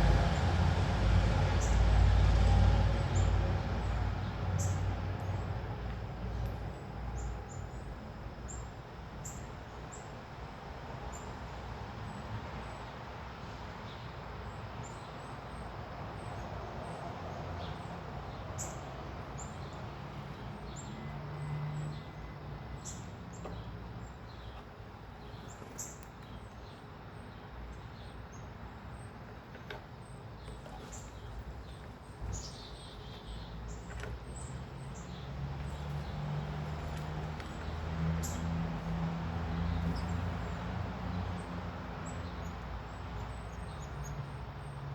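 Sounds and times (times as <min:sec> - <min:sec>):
small birds chirping: 0:03.0 - 0:10.1, 0:13.8 - 0:44.9.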